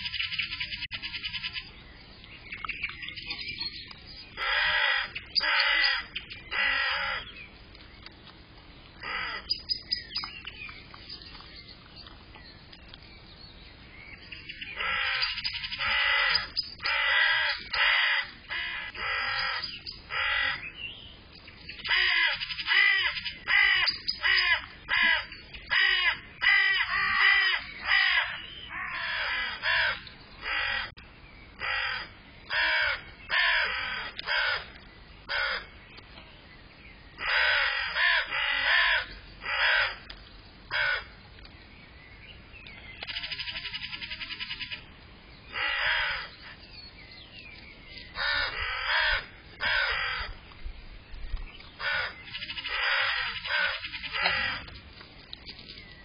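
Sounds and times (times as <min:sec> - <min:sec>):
harsh bird calls: 0:00.0 - 0:08.3, 0:08.9 - 0:54.8.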